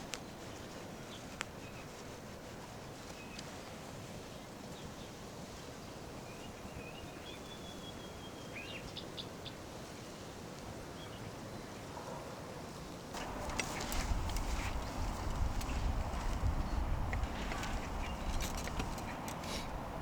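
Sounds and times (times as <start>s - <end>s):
steady wind: 0.0s - 20.0s.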